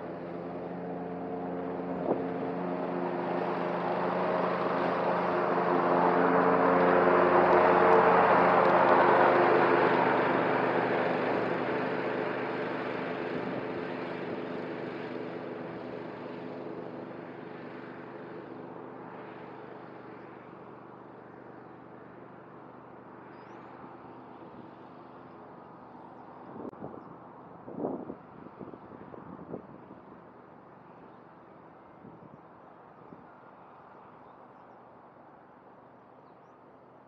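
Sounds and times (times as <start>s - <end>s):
riding mower mowing grass: 0.0s - 32.3s.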